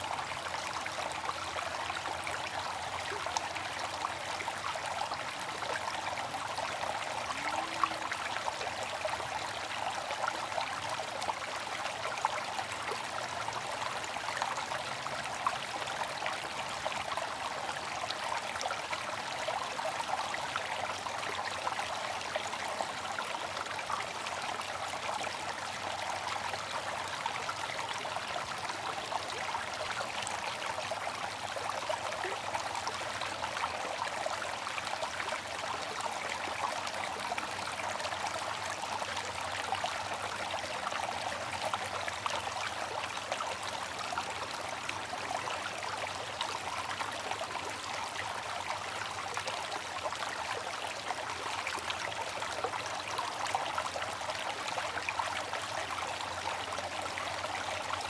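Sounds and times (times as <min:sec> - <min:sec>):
small water splashes and drips: 0:00.0 - 0:58.0
water trickling: 0:00.0 - 0:58.0.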